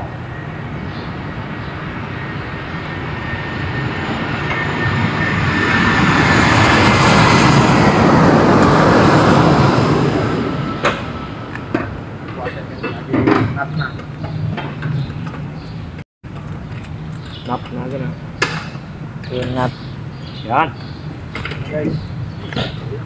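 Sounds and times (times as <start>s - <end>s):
engine passing by: 0.0s - 23.0s.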